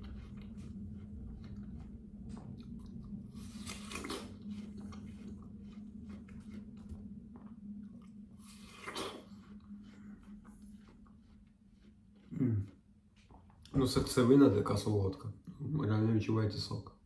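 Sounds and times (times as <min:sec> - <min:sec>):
chewing watermelon: 0:00.0 - 0:15.6.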